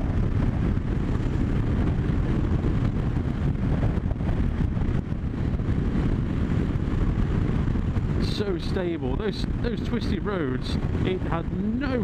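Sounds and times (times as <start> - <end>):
road noise: 0.0 - 12.0
wind rush on microphone: 0.0 - 12.0.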